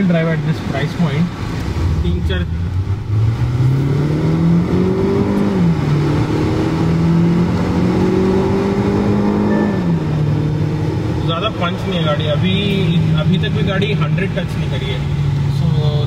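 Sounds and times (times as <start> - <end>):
car engine accelerating hard: 0.3 - 16.0.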